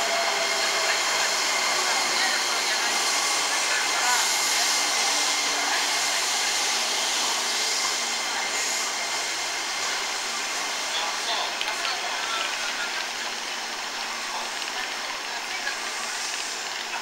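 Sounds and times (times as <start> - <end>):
electric train blower hiss: 0.0 - 17.0.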